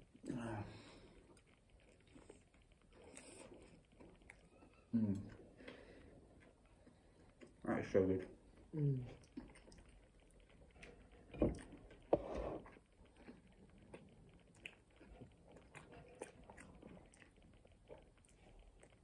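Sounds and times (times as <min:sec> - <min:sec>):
chewing and biting food: 0:01.2 - 0:07.6, 0:08.2 - 0:19.0.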